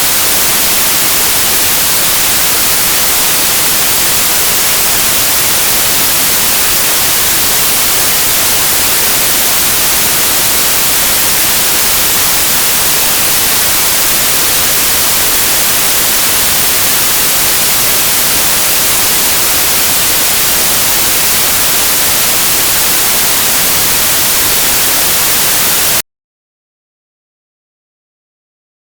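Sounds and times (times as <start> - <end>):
steady white noise: 0.0 - 26.0.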